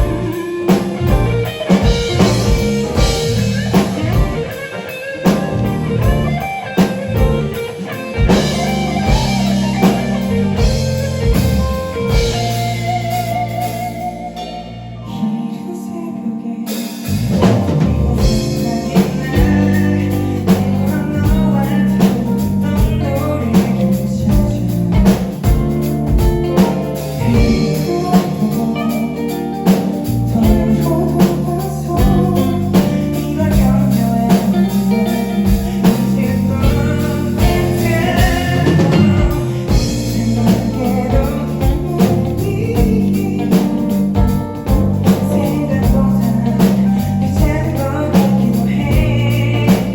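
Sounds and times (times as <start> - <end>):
drum kit: 0.0 - 15.3, 16.7 - 49.9
bass guitar: 0.0 - 15.7, 16.6 - 49.9
electric guitar: 0.0 - 49.9.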